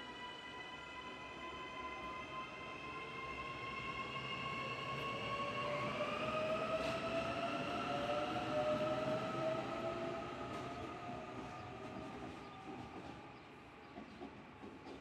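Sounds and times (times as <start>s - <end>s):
train running with tonal whine: 0.0s - 15.0s.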